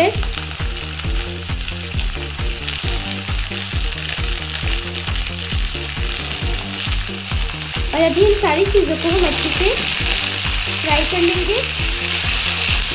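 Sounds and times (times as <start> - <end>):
vegetables sizzling in hot oil: 0.0 - 12.9.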